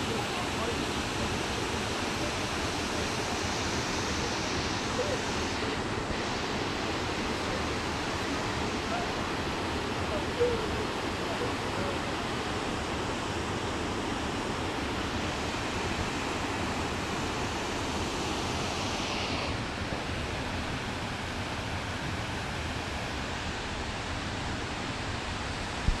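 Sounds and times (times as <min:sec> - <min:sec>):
waterfall rushing: 0:00.0 - 0:25.8.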